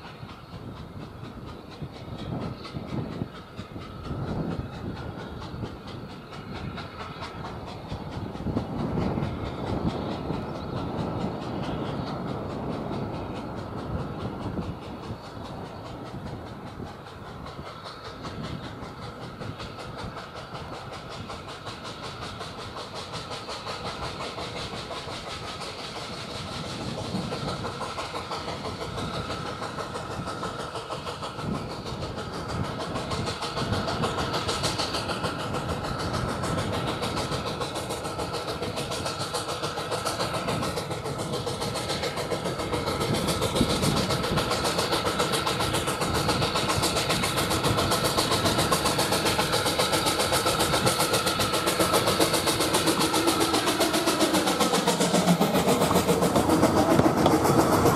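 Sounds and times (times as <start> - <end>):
rail noise: 0.0 - 57.9
steam hissing: 0.0 - 57.9
steam locomotive chuffing: 0.0 - 57.9.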